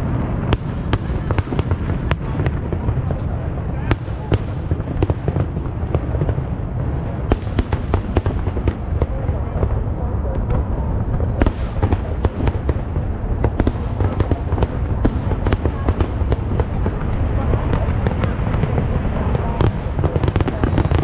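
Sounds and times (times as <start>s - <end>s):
fireworks booming: 0.0s - 21.0s
fireworks cracking and crackling: 0.0s - 21.0s.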